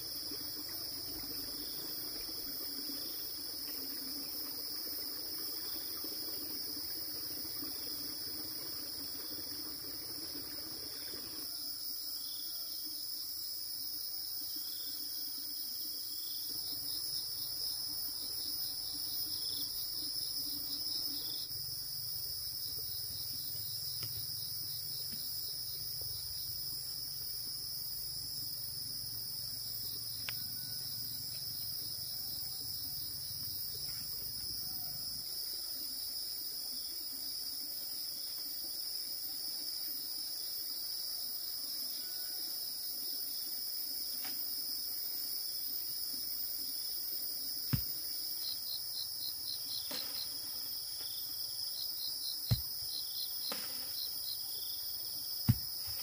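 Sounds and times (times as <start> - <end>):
insect chorus: 0.0 - 56.0
insect rapid pulsing calls: 0.0 - 56.0.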